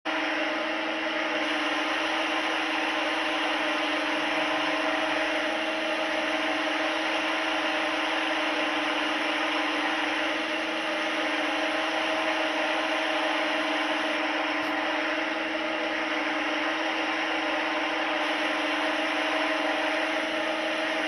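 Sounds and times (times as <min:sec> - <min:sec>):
mechanical whir: 0:00.2 - 0:21.0.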